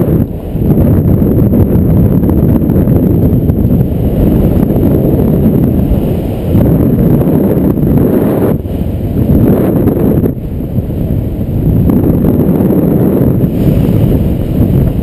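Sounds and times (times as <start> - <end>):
wind buffeting a microphone: 0.0 - 15.0.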